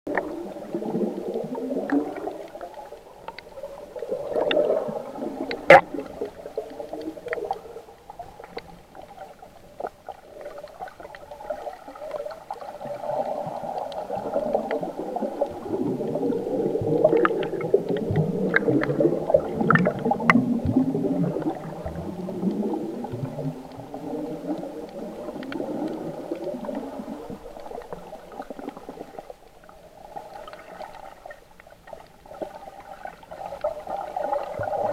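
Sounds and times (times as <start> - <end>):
underwater bubbles gurgling: 0.1 - 34.9.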